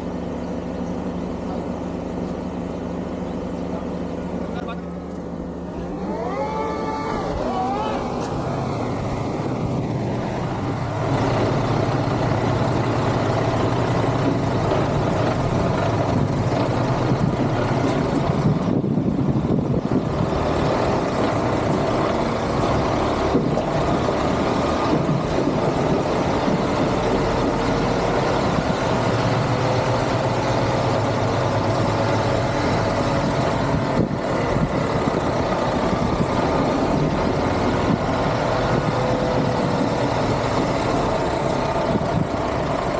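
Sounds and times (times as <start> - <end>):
lorry diesel engine running: 0.0 - 42.9.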